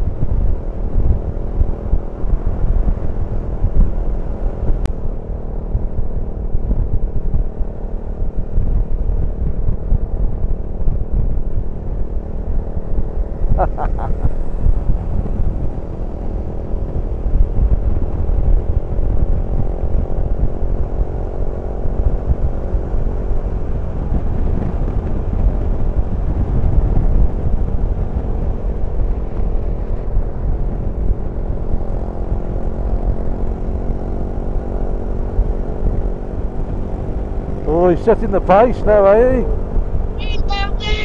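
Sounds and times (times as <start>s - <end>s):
motorcycle engine running: 0.0s - 40.2s
wind rush on microphone: 0.0s - 41.0s.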